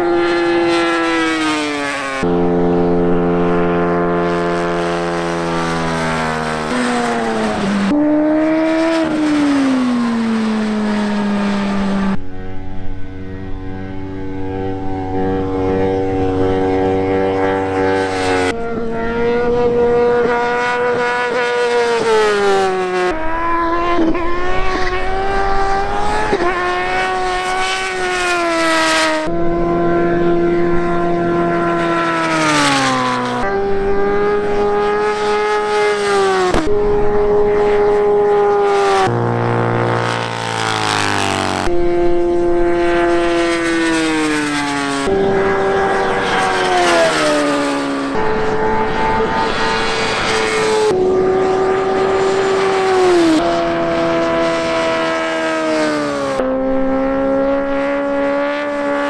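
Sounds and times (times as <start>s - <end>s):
motorcycle engines at full throttle: 0.0s - 59.0s.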